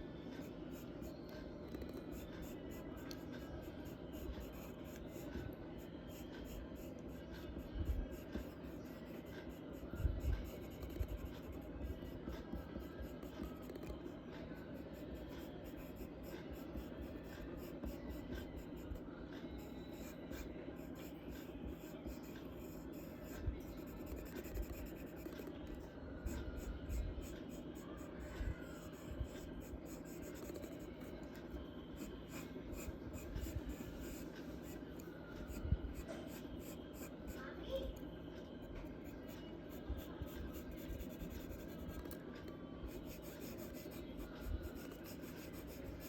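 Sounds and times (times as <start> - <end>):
faint steady hum: 0.0 - 46.0
charcoal scratching on paper: 0.4 - 18.9, 19.5 - 37.8, 38.8 - 42.2, 42.9 - 46.0.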